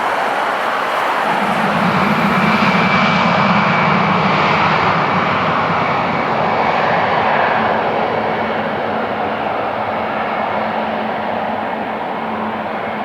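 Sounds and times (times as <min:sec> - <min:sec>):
high engine whine: 0:00.0 - 0:13.0
jet engines roaring: 0:00.0 - 0:13.0.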